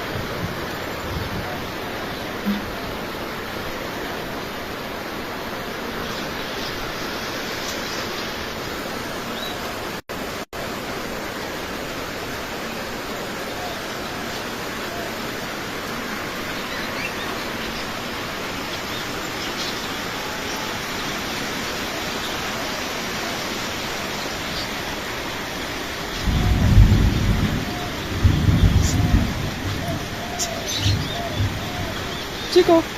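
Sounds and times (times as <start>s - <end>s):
heavy rain falling: 0.0s - 32.9s.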